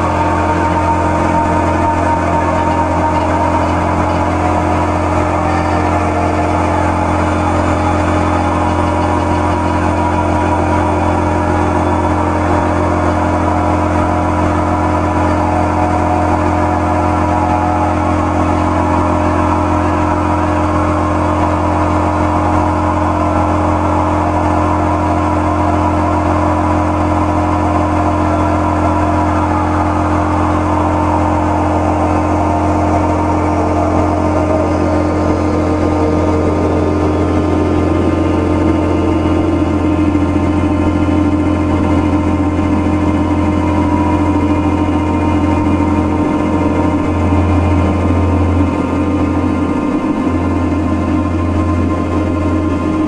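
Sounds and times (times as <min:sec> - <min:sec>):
electronic drone music: 0:00.0 - 0:53.0.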